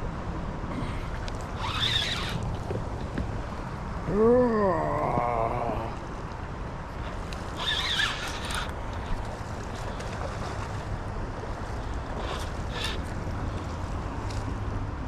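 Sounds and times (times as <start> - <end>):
river water rushing: 0.6 - 15.0.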